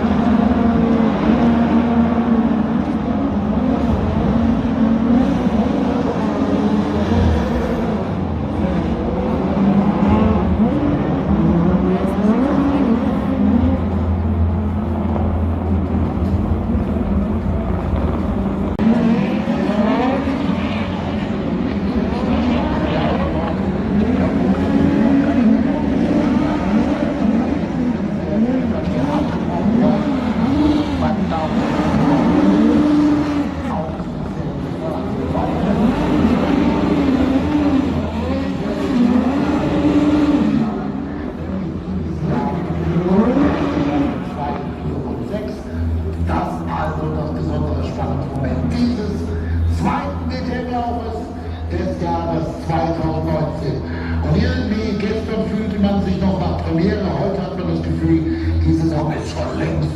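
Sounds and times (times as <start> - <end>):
race car engines droning: 0.0 - 59.9.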